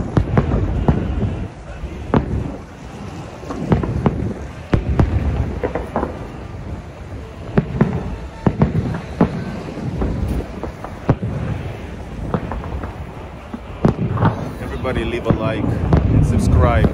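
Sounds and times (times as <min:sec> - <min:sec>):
fireworks bangs: 0:00.0 - 0:16.9
low rumble of echoing reports: 0:00.0 - 0:16.9.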